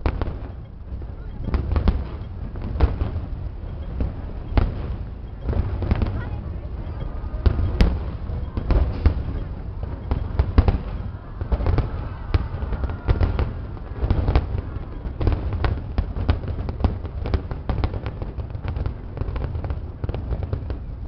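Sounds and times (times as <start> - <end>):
fireworks crackling and banging: 0.0 - 21.0
low rumble: 0.0 - 21.0.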